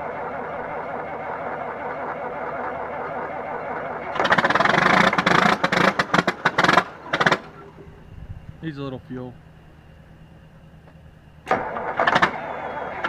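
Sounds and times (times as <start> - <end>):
diesel tractor engine starting: 0.0 - 13.0.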